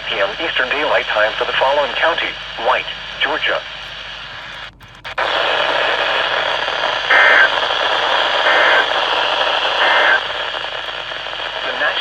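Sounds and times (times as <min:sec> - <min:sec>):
radio static hiss: 0:00.0 - 0:12.0
warbling data bursts: 0:00.8 - 0:12.0.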